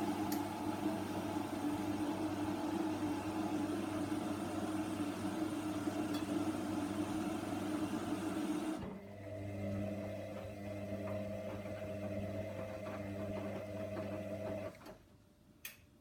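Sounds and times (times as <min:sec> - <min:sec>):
washing machine motor whir: 0:00.0 - 0:14.9.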